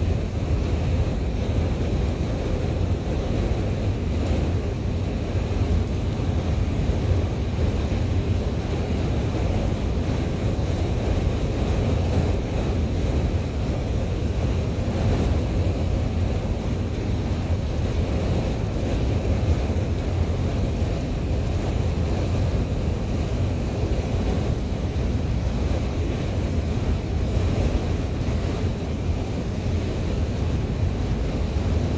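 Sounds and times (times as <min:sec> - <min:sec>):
strong wind rumble: 0:00.0 - 0:31.9.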